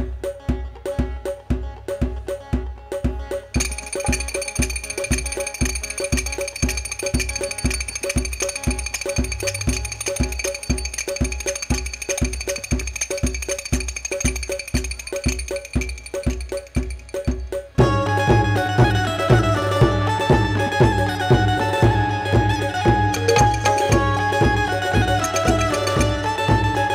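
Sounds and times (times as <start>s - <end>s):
drums keeping an even beat: 0.0s - 26.9s.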